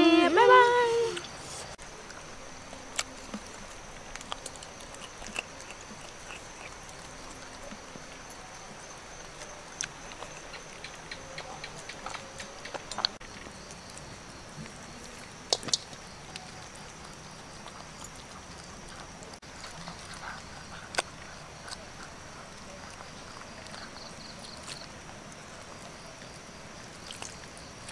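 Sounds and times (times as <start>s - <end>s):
background hiss: 0.0s - 27.9s
dog chewing bones: 2.8s - 13.3s, 15.4s - 27.9s.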